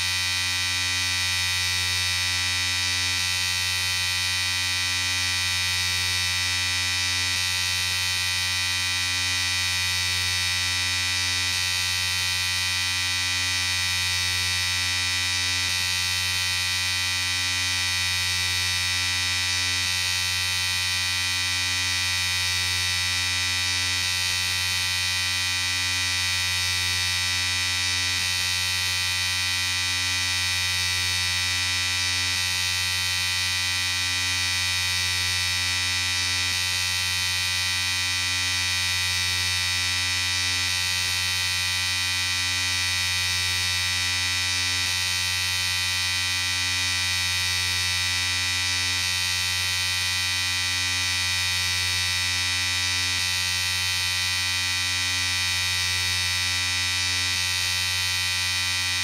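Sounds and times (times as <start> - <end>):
electric shaver buzzing: 0.0 - 59.0.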